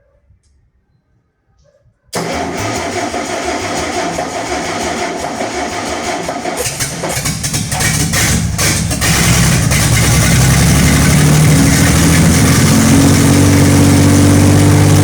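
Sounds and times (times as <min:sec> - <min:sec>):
engine running loud: 0:02.2 - 0:15.0
engine starter cranking: 0:02.2 - 0:15.0.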